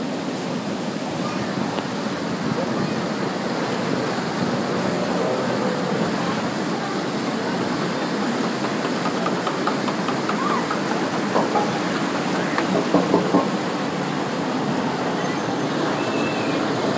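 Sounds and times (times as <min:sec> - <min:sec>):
water rushing through channel: 0:00.0 - 0:16.9.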